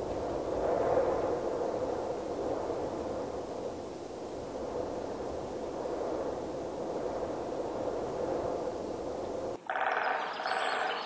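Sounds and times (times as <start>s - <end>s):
steady rushing ambient noise: 0.0s - 11.0s.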